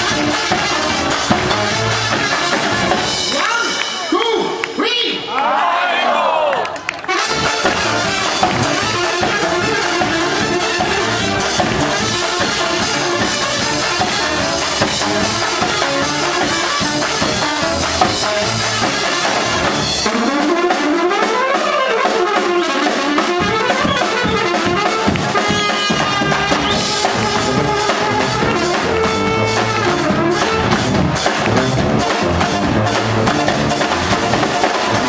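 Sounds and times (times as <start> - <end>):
tuba: 0.0 - 3.3, 7.0 - 35.0
trumpets and trombones: 0.0 - 4.0, 7.0 - 35.0
drums: 0.0 - 5.3, 6.9 - 35.0.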